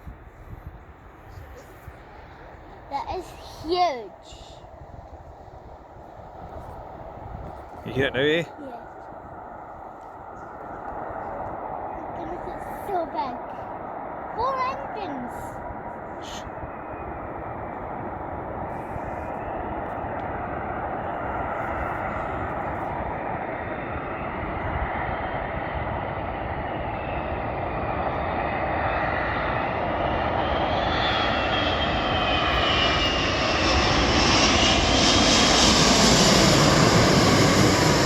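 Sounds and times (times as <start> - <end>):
jet airliner landing: 0.0 - 38.0.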